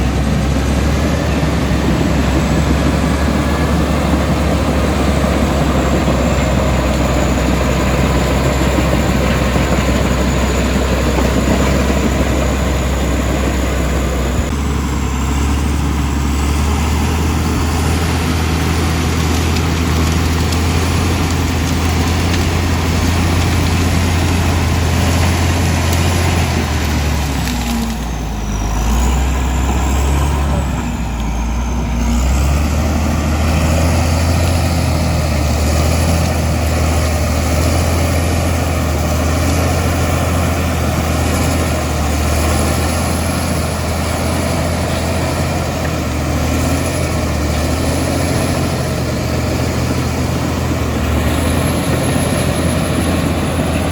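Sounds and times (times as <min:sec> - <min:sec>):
bulldozer diesel engine droning: 0:00.0 - 0:53.9.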